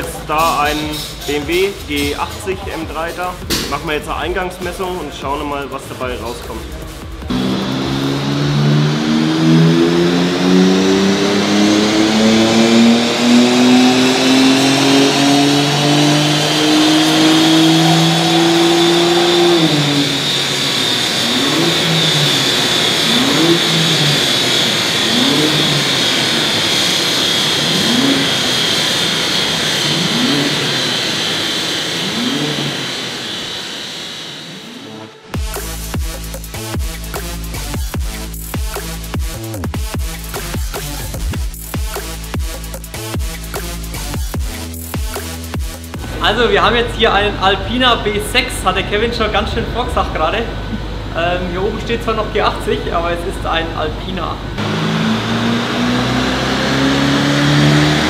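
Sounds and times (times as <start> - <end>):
car engine revving under load: 0.0 - 58.0
high turbo whine: 0.0 - 58.0.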